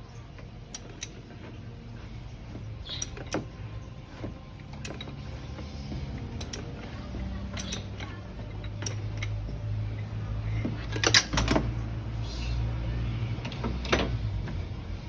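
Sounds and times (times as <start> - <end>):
metallic clicks and creaks: 0.0 - 12.2, 13.3 - 15.0.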